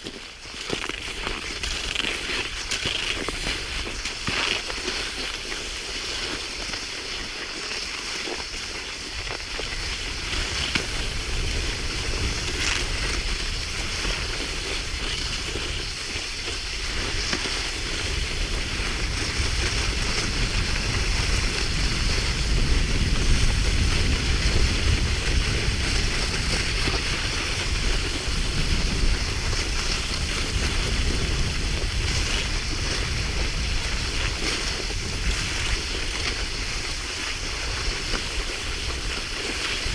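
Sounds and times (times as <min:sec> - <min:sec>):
skis gliding on snow: 0:00.0 - 0:39.9
wind rumbling on microphone: 0:00.0 - 0:39.9.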